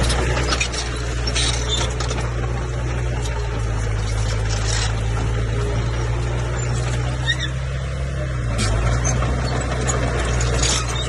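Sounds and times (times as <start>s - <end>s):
bulldozer diesel engine drone: 0.0s - 11.0s.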